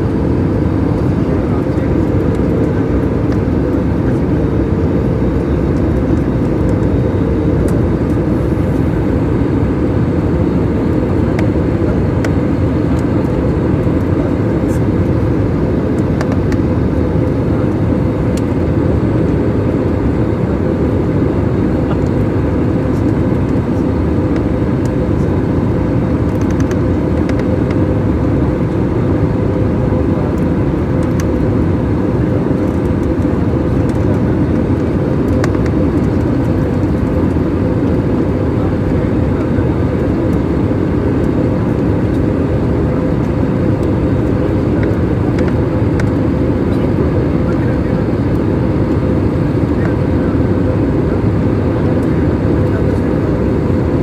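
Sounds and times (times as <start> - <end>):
aircraft engines and rushing air: 0.0 - 54.0.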